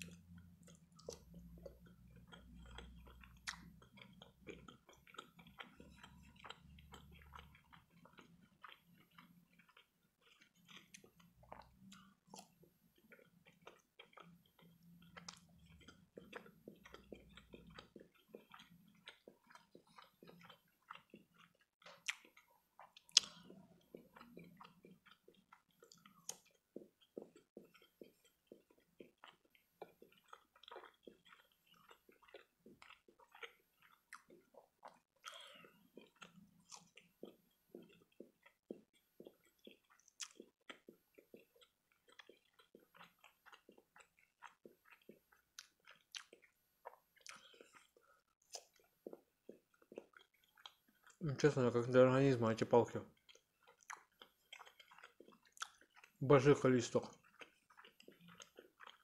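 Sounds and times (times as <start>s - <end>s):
small mouth clicks: 0.0s - 51.2s, 53.3s - 56.1s
faint chewing: 0.0s - 59.0s.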